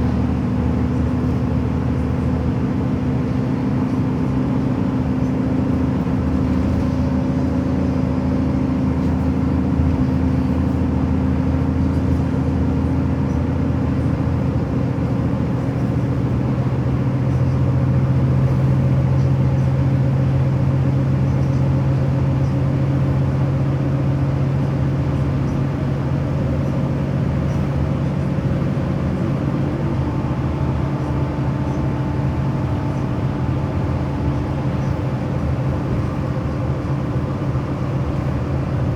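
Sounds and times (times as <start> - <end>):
vehicle engine drone: 0.0 - 38.9.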